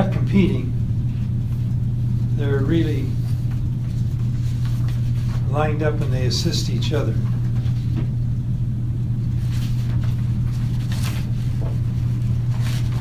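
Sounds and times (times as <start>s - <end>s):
low hum and rumble: 0.0s - 13.0s.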